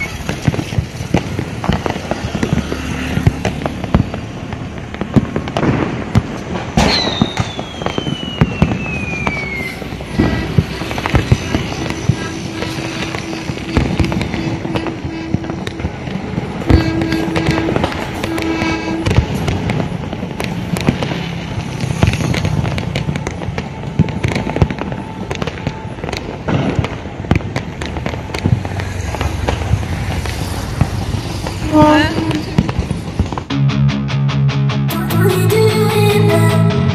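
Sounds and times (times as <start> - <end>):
firecrackers and fireworks banging: 0.0 - 33.7.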